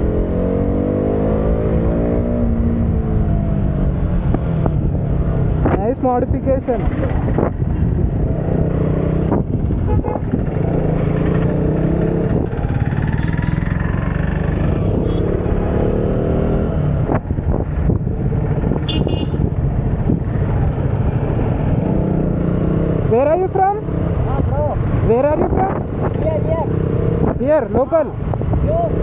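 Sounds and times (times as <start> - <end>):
motorcycle engine running: 1.5 - 29.0.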